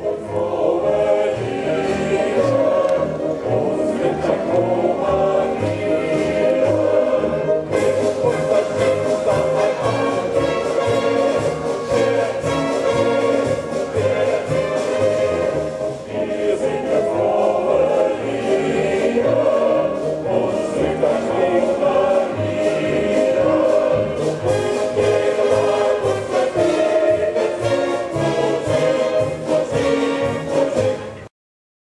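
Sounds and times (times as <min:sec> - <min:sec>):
orchestra and choir performing: 0:00.0 - 0:31.3.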